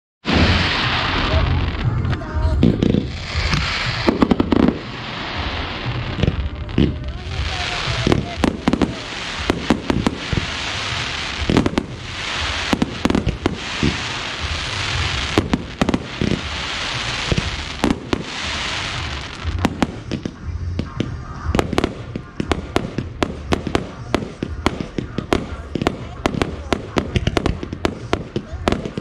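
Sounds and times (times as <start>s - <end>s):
fireworks bangs and pops: 0.2s - 29.0s
fireworks crackling hiss: 0.2s - 29.0s.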